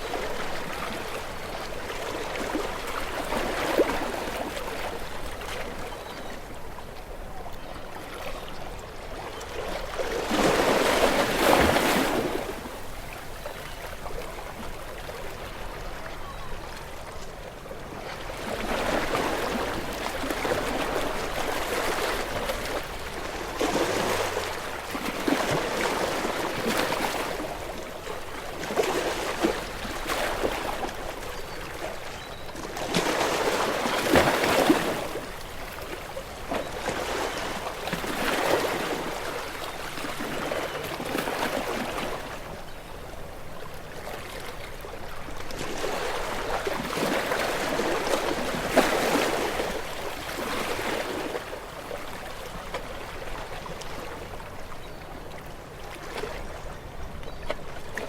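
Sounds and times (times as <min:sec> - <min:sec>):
small waves washing ashore: 0:00.0 - 0:58.0.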